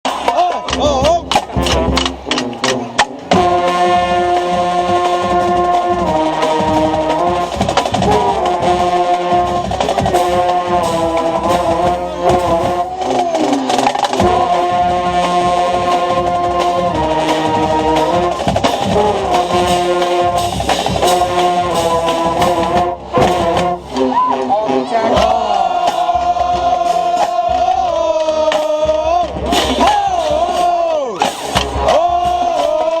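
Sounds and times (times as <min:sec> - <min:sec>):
drum strokes: 0:00.0 - 0:33.0
marching band playing: 0:00.0 - 0:33.0.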